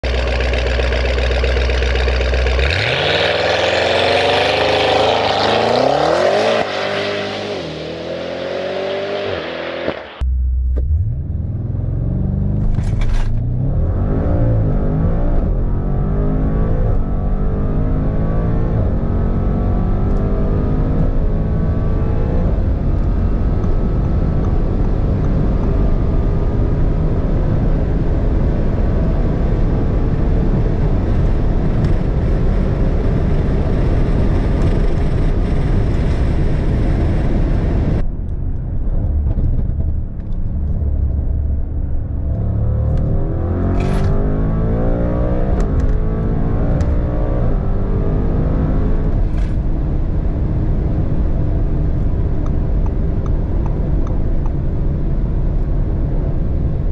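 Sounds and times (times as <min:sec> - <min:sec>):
car engine at full throttle: 0:00.0 - 0:56.9.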